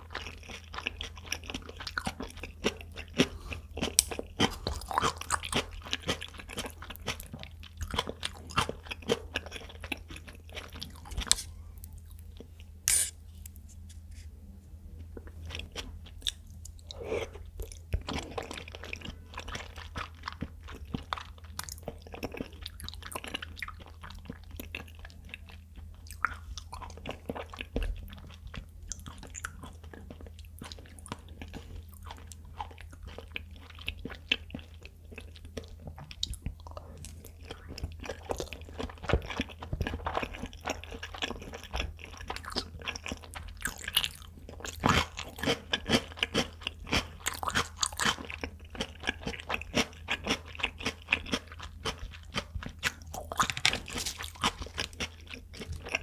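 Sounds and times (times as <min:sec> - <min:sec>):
soft wet chewing: 0:00.0 - 0:56.0.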